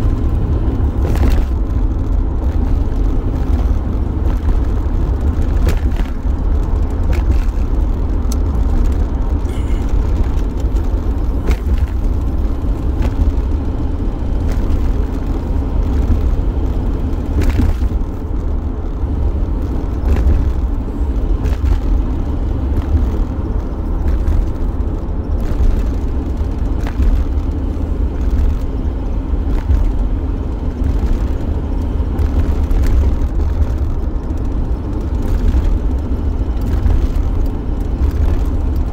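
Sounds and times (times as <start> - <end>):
van engine and road rumble: 0.0 - 38.9.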